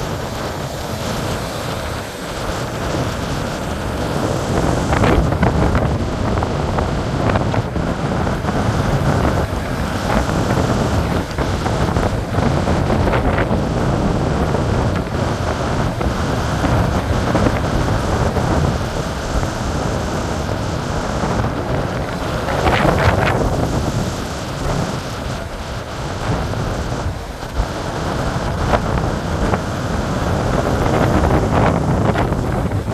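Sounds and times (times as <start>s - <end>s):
heavy surf breaking: 0.0s - 32.9s
storm wind buffeting microphone: 0.0s - 32.9s.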